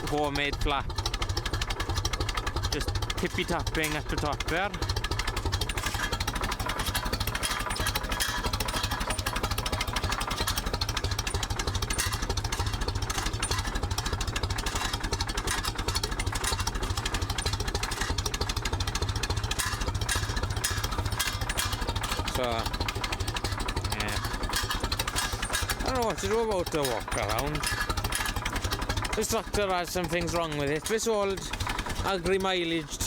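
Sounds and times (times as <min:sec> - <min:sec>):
exhaust flap tapping: 0:00.0 - 0:33.0
tractor engine idling: 0:00.0 - 0:33.0.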